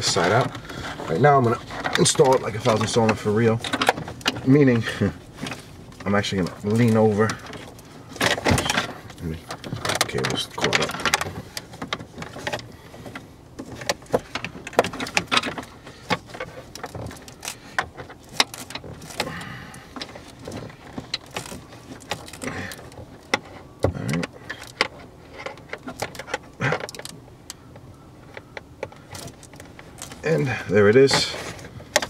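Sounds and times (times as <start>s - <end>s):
cable rustling against plastic: 0.0s - 32.0s.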